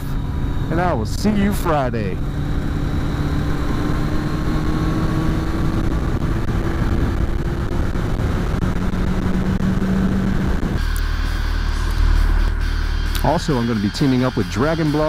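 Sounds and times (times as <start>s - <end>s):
motorcycle engine drone: 0.0s - 15.0s
road and wind noise: 0.0s - 15.0s.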